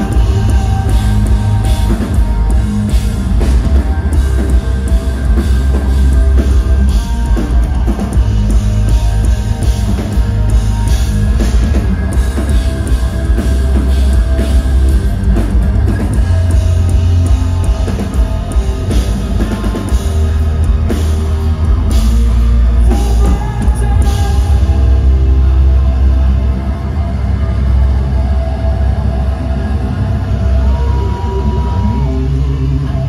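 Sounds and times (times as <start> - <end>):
drum kit: 0.0 - 27.6
bass guitar: 0.0 - 33.0
electric guitar: 0.0 - 33.0.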